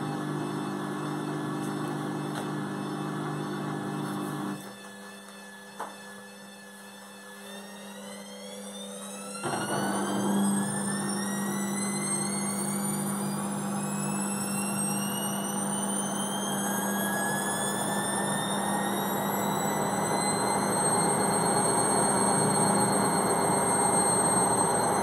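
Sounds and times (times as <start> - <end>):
rising whine: 0.0 - 25.0
washing machine motor hum: 0.0 - 25.0.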